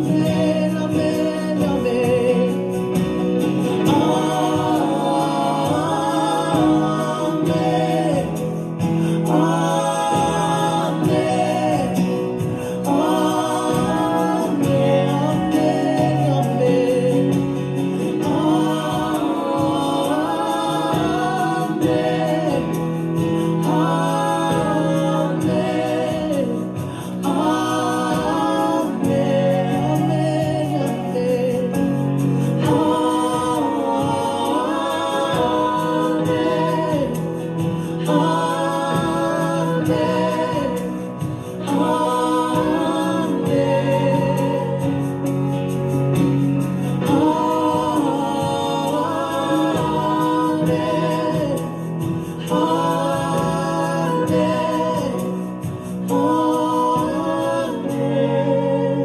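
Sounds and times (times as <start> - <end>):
group singing gospel song: 0.0 - 59.0.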